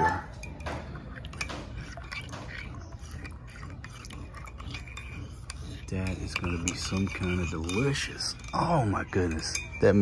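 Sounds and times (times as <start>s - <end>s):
spoon clinking in a mug: 0.0s - 10.0s.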